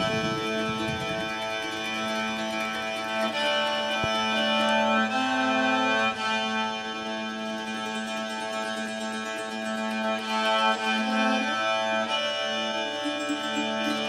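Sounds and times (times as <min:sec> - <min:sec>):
slow melody of held notes: 0:00.0 - 0:14.0
steady low drone: 0:00.0 - 0:14.0.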